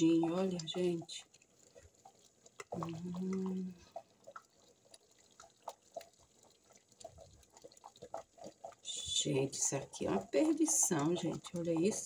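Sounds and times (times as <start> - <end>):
bubbles popping softly: 0.0 - 12.0
stew simmering in a pot: 0.0 - 12.0.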